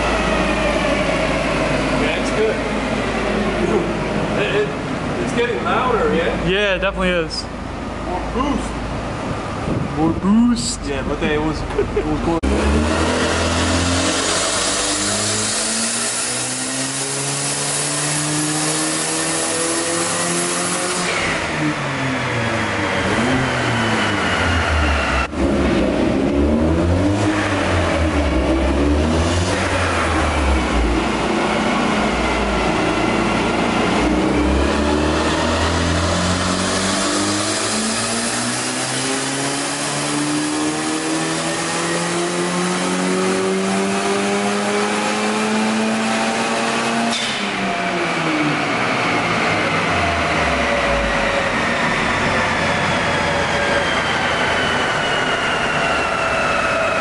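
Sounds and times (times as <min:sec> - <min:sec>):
turbocharged car engine on dyno: 0:00.0 - 0:57.0.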